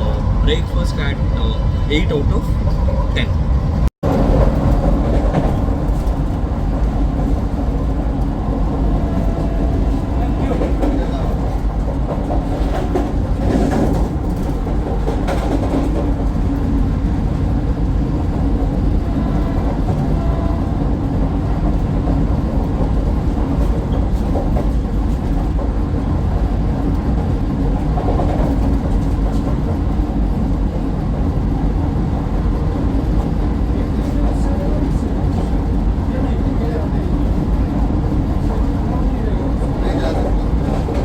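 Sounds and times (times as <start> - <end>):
electric train running rumble: 0.0 - 41.0.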